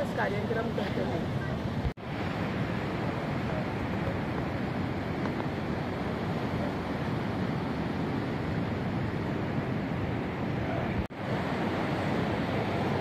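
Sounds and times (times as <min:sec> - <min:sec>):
sea surf on beach: 0:00.0 - 0:13.0
wind noise on microphone: 0:00.0 - 0:13.0.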